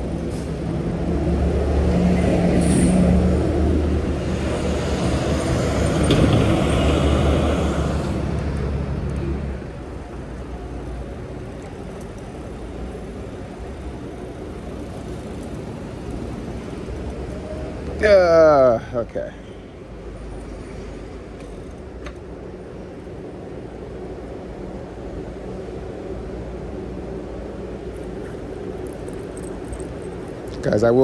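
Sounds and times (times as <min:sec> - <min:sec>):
background traffic: 0:00.0 - 0:31.0
vehicle engine humming: 0:00.0 - 0:31.0.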